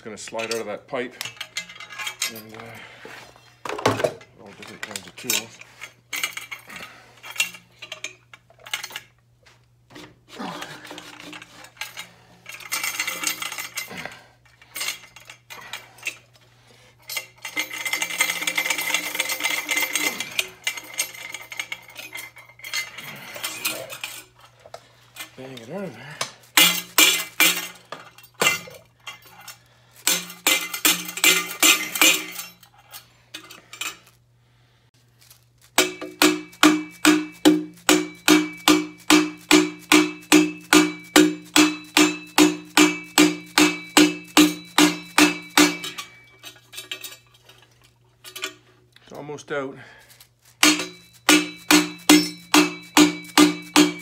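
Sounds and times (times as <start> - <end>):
hand tools scraping metal pipe: 0.0 - 3.6, 9.9 - 34.0, 35.8 - 48.8, 50.5 - 54.0.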